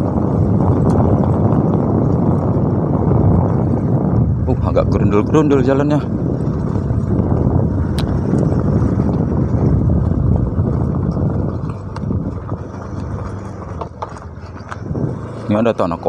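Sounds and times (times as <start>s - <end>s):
motorcycle engine at low speed: 0.0s - 16.0s
wind on microphone: 0.0s - 16.0s.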